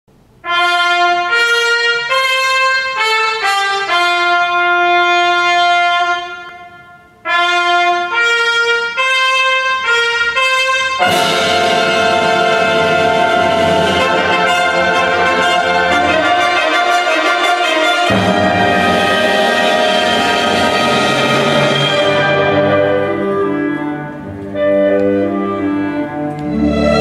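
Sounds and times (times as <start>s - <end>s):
fuller ensemble music: 0.1s - 27.0s
solo brass melody: 0.4s - 27.0s.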